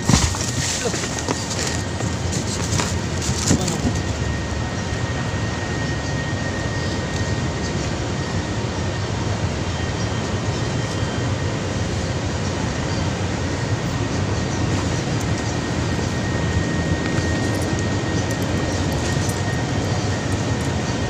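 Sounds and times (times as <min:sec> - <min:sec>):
rushing rumbling outdoor noise: 0:00.0 - 0:21.0.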